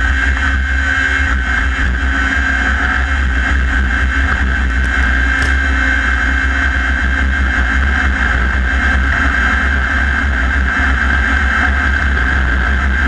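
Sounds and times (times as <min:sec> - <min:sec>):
buggy engine drone: 0:00.0 - 0:13.0.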